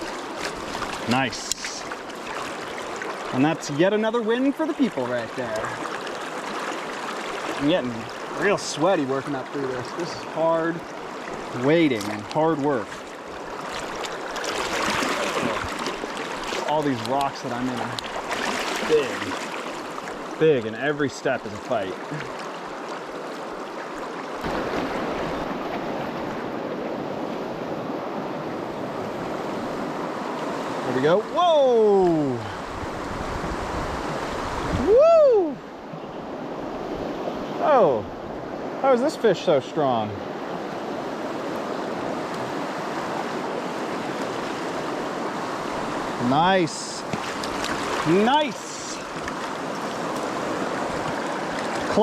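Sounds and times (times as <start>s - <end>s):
river current rushing: 0.0s - 52.0s.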